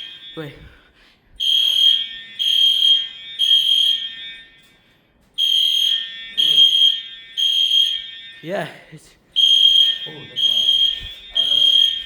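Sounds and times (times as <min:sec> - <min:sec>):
fire alarm horn blasts: 0:00.0 - 0:12.0.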